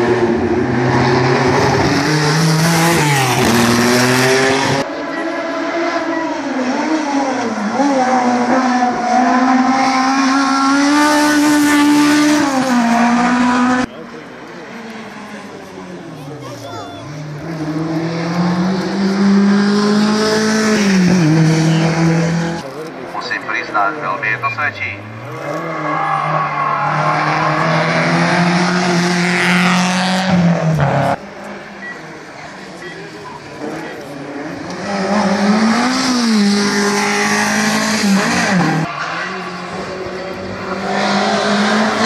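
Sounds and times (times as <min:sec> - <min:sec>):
race car engine revving: 0:00.0 - 0:16.4, 0:17.0 - 0:42.0.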